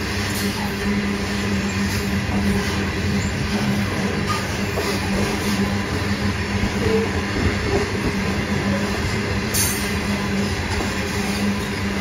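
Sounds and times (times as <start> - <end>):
steel wheels rumbling on rail: 0.0 - 12.0.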